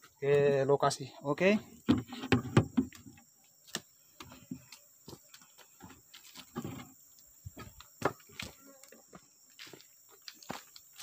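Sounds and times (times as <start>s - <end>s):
footsteps: 1.6s - 11.0s.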